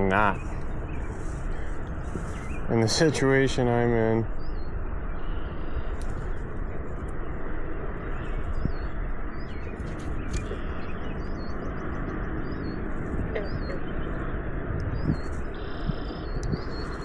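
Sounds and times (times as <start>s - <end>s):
small bird chirping: 0.0s - 7.2s, 8.0s - 17.0s.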